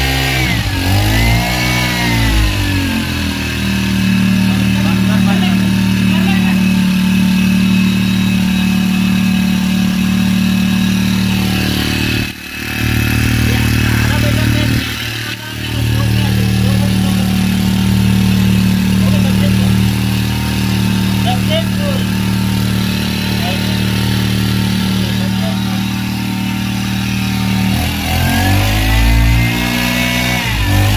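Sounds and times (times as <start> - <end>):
four-stroke engine running: 0.0 - 30.9.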